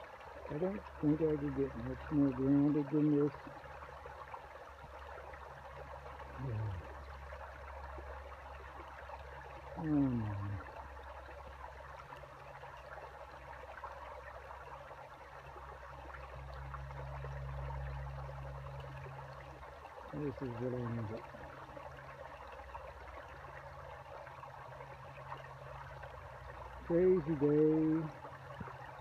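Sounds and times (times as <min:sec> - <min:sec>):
stream running over rocks: 0:00.0 - 0:29.0.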